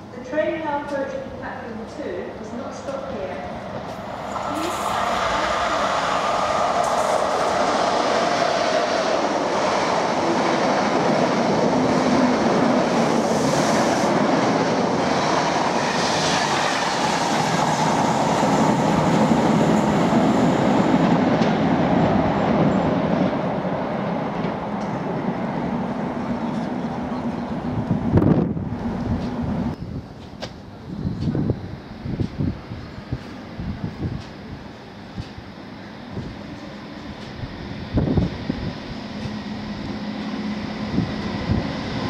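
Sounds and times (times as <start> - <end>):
train wheels rushing on rail: 0.5 - 42.0.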